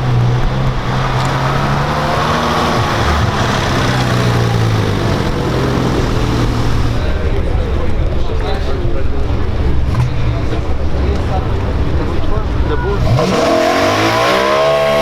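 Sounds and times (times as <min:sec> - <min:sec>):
car engine running low: 0:00.0 - 0:15.0.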